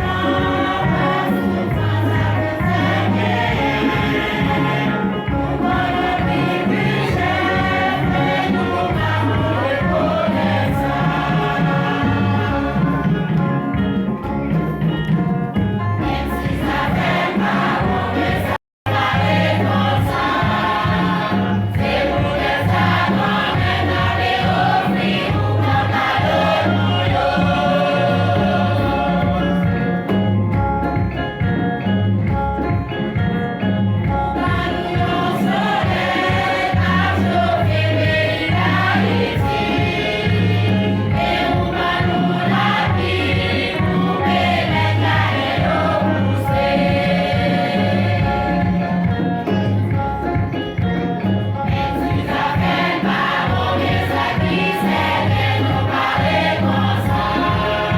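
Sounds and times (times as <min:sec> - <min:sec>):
choir singing a hymn: 0:00.0 - 0:14.0, 0:16.0 - 0:30.4, 0:34.0 - 0:57.9.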